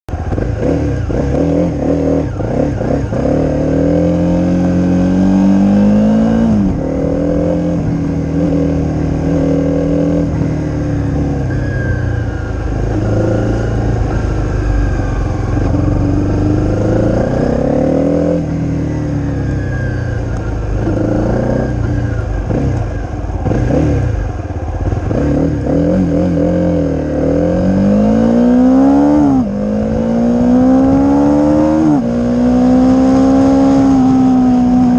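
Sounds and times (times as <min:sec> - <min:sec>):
motorbike engine accelerating: 0:00.1 - 0:34.9.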